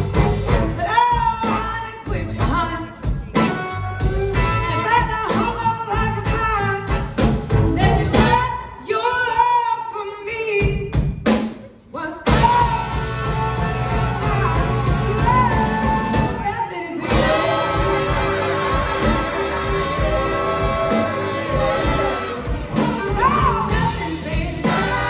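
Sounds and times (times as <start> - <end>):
live band playing: 0.0 - 9.9, 10.6 - 25.0
woman singing: 0.8 - 3.3, 4.7 - 6.9, 7.8 - 10.9, 11.9 - 25.0.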